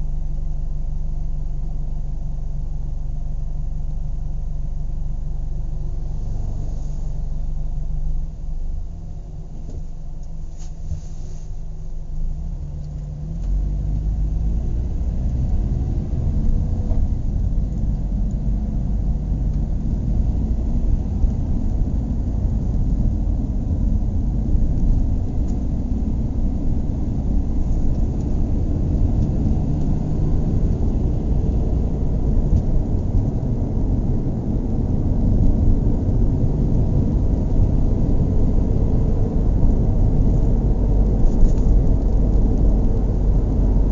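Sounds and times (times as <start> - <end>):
car engine rumbling: 0.0 - 43.9.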